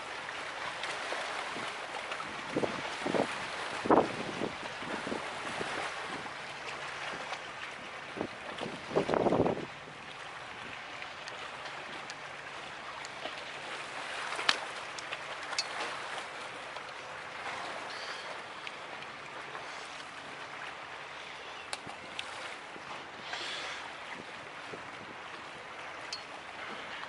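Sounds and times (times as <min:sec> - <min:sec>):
water washing on rocks: 0:00.0 - 0:25.5
steady wind: 0:00.0 - 0:27.0.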